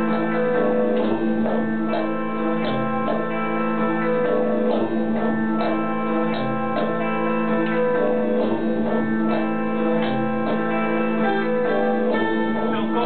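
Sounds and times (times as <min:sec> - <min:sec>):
plucked lute notes: 0:00.0 - 0:13.0.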